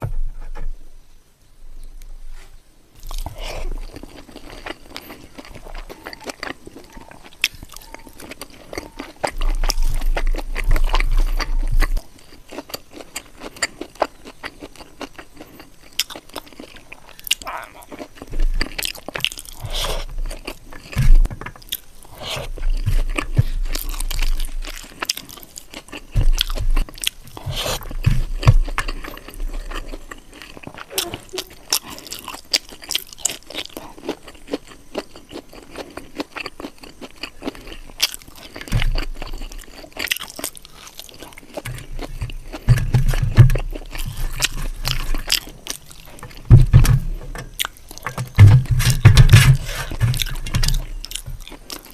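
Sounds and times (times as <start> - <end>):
chewing and crunching food: 2.9 - 51.9.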